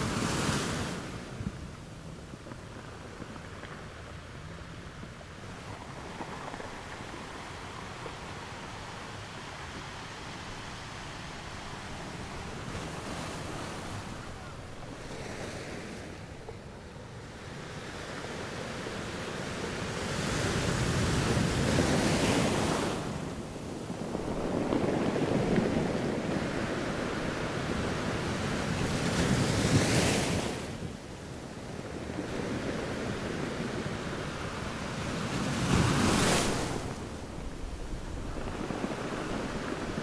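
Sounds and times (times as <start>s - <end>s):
sea waves washing up beach: 0.0s - 40.0s.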